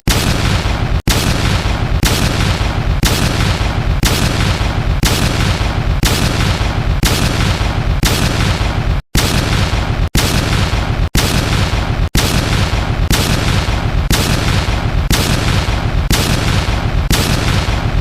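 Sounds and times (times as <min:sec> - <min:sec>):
loud booming hits: 0:00.1 - 0:18.0.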